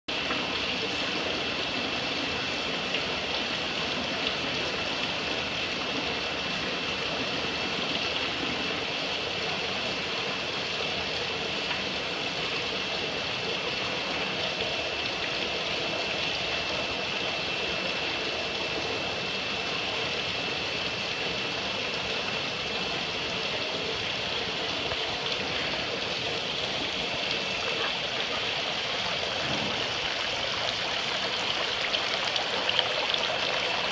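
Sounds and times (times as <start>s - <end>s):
water flowing and trickling: 0.1s - 33.9s.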